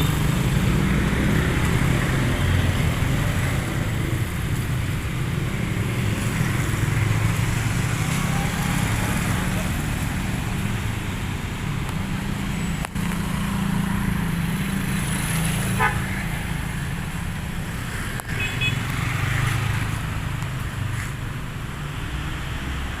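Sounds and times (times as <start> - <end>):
vehicle engines running: 0.0 - 23.0.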